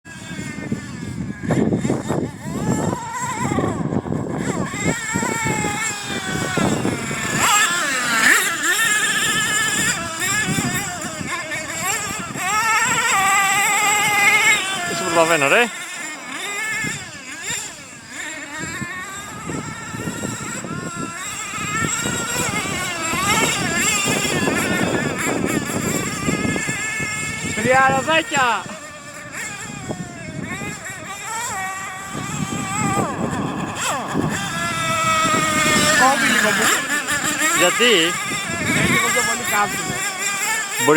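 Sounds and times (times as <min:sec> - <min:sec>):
model truck engine revving: 0:00.1 - 0:40.9.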